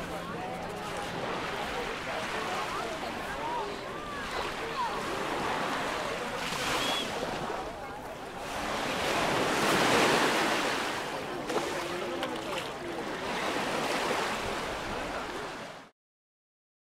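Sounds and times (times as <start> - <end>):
faint voices of people: 0.0 - 15.9.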